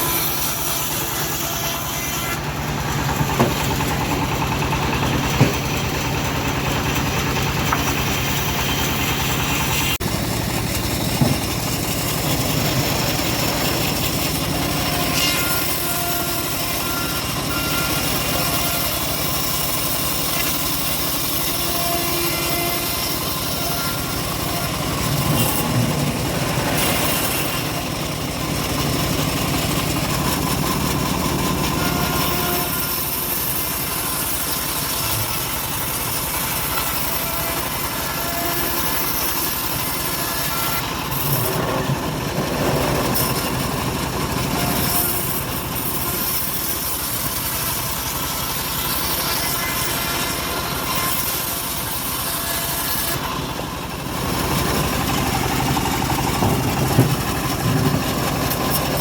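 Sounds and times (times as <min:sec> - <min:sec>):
saw blade cutting log: 0:00.0 - 0:59.0
sawmill engine running: 0:00.0 - 0:59.0.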